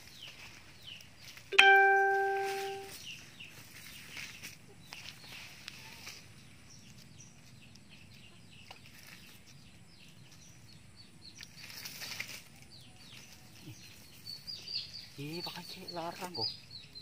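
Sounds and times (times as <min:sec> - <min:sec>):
rustling of net and dry leaves: 0:00.0 - 0:01.5, 0:02.1 - 0:16.4
birds chirping: 0:00.0 - 0:11.9, 0:12.6 - 0:17.0.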